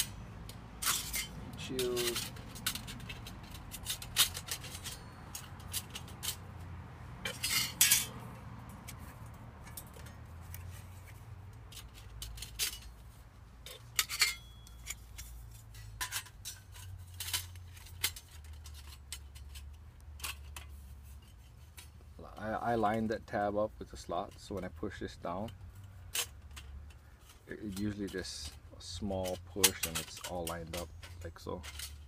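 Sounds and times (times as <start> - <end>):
metal panels clinking and scraping: 0.0 - 32.0.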